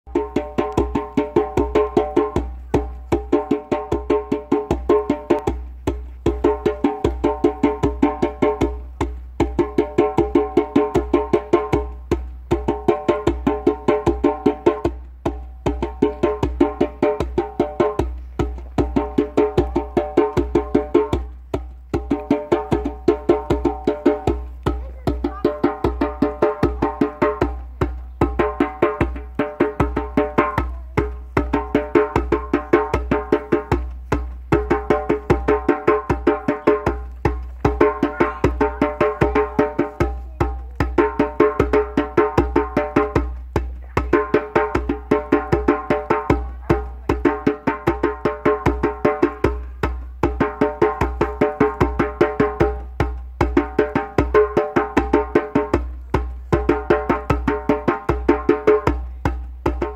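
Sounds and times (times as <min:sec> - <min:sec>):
hand drum played fast: 0:00.1 - 0:59.9.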